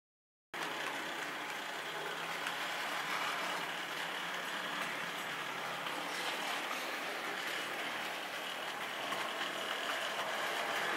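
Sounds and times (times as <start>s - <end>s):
model train cars rolling on rails: 0.6s - 10.9s.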